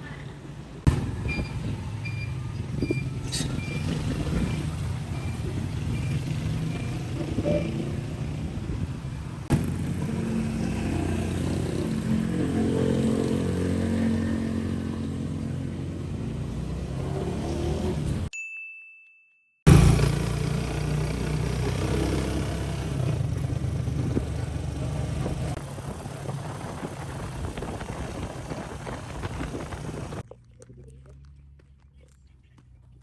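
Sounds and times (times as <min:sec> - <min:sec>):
vehicle engine rumbling: 0:00.0 - 0:18.3, 0:19.7 - 0:33.0.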